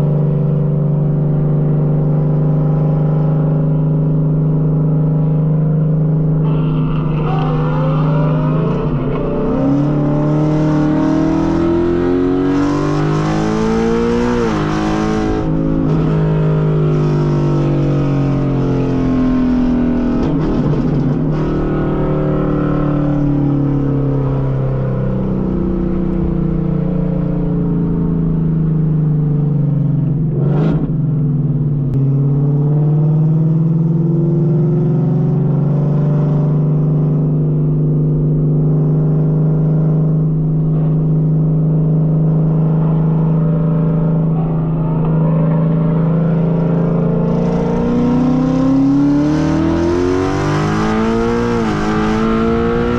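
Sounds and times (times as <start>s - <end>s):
car engine accelerating hard: 0.0s - 52.9s.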